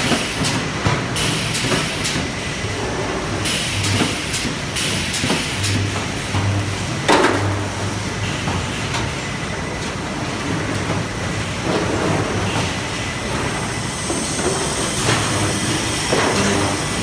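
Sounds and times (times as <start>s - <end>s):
welding machine rumble and hum: 0.0s - 17.0s.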